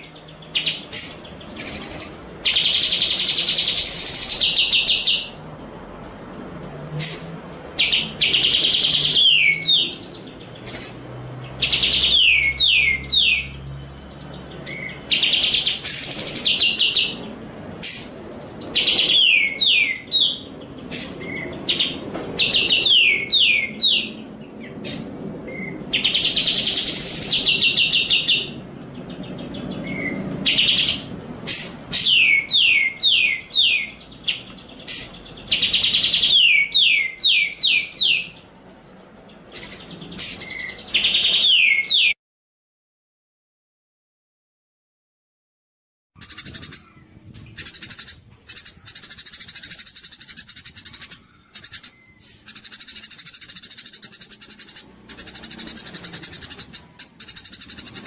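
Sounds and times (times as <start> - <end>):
songbird singing: 0.0 - 42.2, 46.2 - 58.0.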